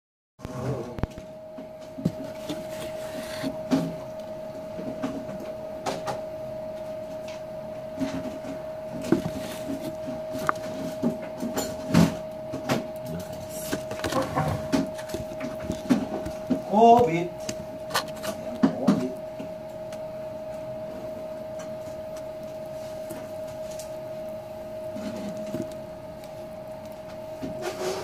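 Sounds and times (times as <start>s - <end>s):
high-pitched hum: 0.4s - 28.0s.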